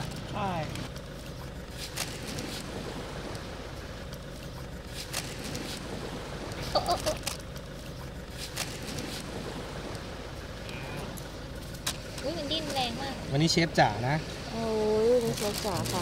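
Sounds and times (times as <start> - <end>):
steady background rumble: 0.0 - 16.0.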